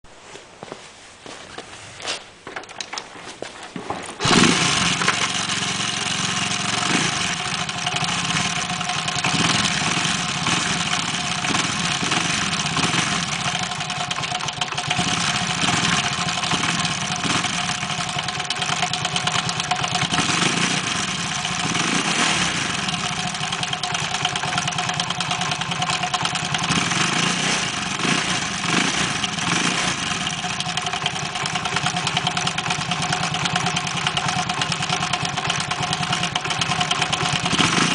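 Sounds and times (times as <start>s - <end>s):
engine starting and idling: 4.0s - 37.9s.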